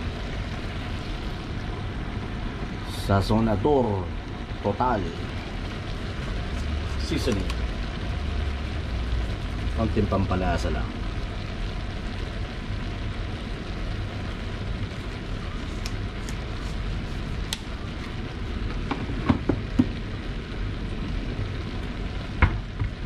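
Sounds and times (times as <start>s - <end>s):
food simmering and sizzling: 0.0s - 23.0s.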